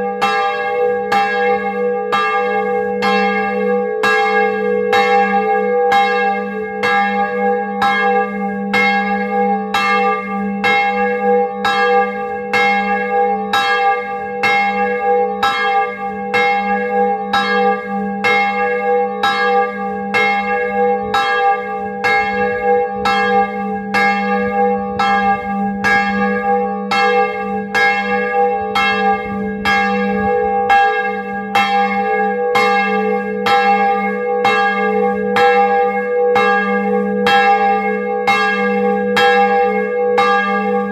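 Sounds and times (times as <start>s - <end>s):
church bell ringing: 0.0s - 40.9s.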